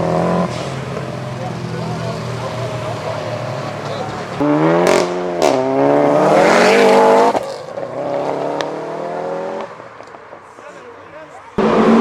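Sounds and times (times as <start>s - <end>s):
car engine accelerating: 0.0s - 9.8s, 11.6s - 12.0s.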